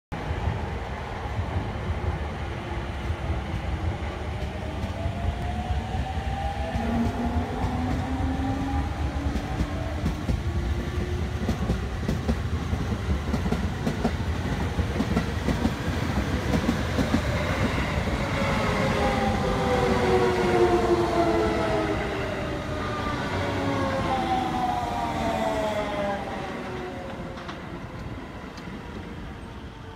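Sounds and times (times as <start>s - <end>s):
train wheels rumbling on rails: 0.1s - 29.9s.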